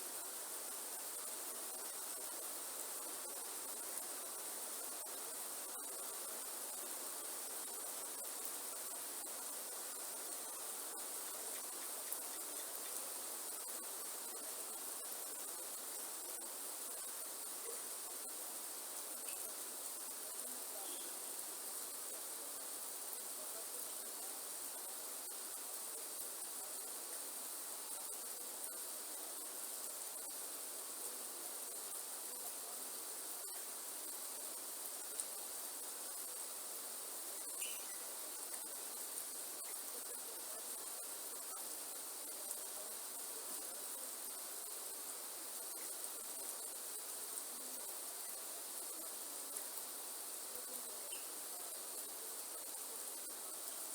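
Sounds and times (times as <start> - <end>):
steady rain falling: 0.0 - 53.9
ticks of raindrops: 0.0 - 53.9
high-pitched insect chorus: 0.1 - 53.9.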